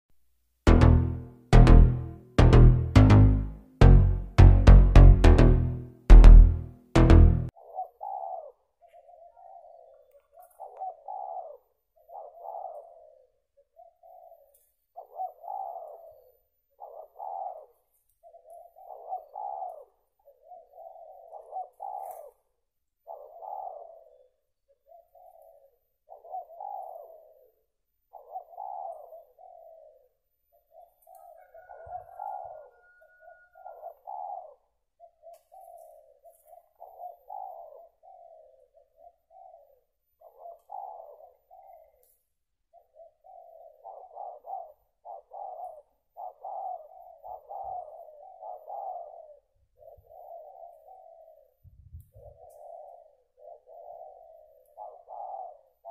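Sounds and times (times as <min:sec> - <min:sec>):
dove cooing: 0:07.5 - 0:55.9.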